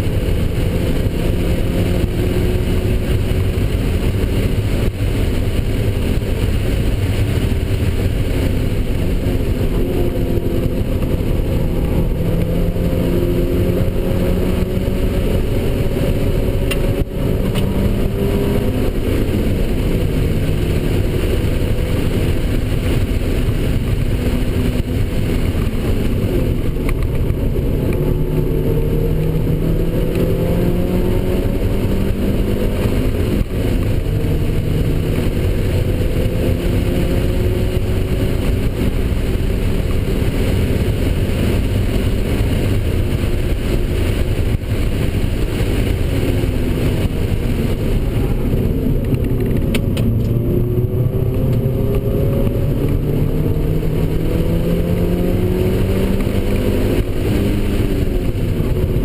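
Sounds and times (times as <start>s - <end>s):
car engine at speed: 0.0s - 59.0s
wind and tyre noise: 0.0s - 59.0s.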